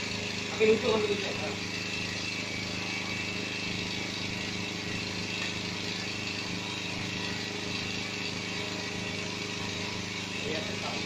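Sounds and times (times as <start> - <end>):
portable generator engine running: 0.0 - 11.0.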